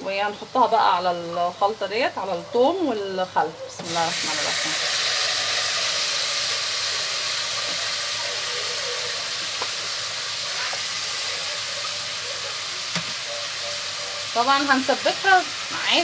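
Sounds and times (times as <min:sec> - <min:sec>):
tomatoes sizzling in hot oil: 0:00.0 - 0:16.0.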